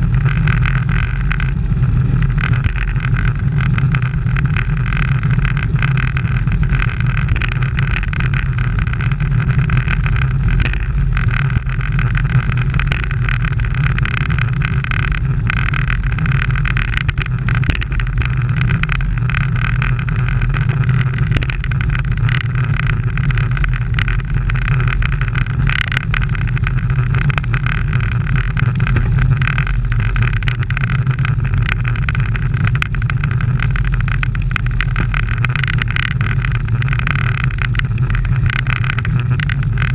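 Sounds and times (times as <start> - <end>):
wind rumble: 0.0 - 39.9.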